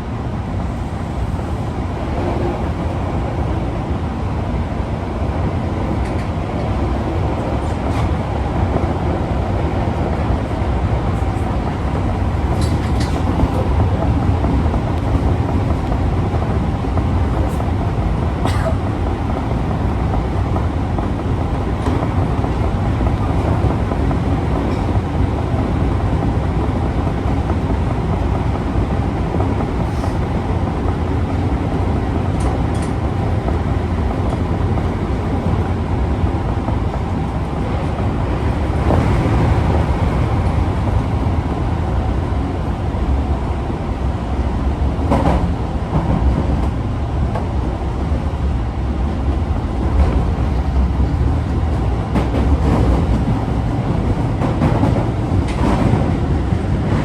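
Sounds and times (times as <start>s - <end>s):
rumble of wheels on rail: 0.0s - 57.0s.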